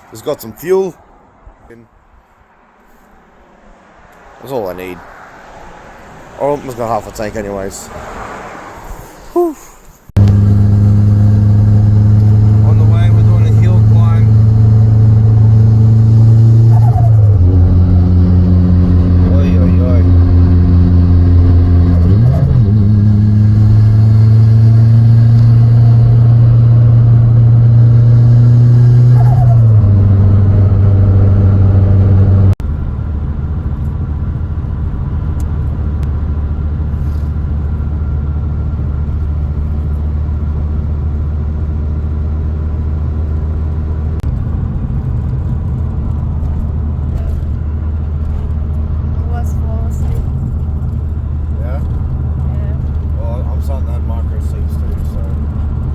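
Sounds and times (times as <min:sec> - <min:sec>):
car engine revving under load: 0:10.1 - 0:55.9.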